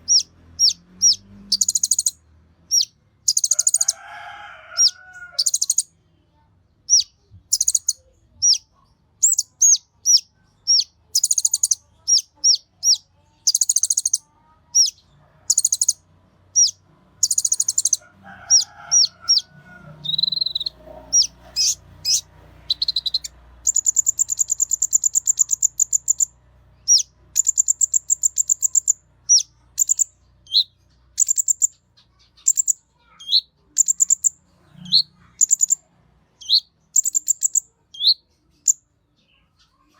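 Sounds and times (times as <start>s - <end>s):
sunbird chirping and trilling: 0.0s - 5.9s, 6.9s - 16.0s, 16.6s - 39.9s.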